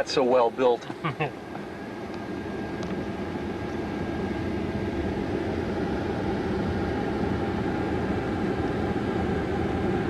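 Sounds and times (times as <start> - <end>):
road and engine noise inside vehicle: 0.0 - 10.0.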